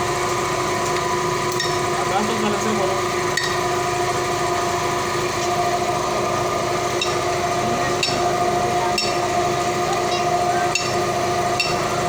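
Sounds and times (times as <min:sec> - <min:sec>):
small motor humming: 0:00.9 - 0:12.0.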